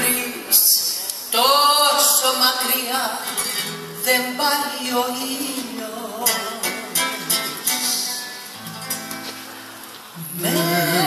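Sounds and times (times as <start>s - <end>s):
acoustic guitar playing chords: 0.0s - 11.0s.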